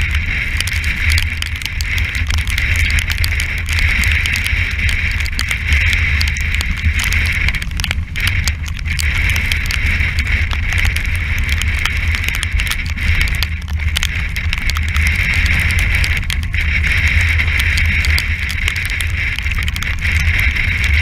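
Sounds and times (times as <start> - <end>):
water rushing along hull: 0.0 - 21.0
wind buffeting microphone: 0.0 - 21.0.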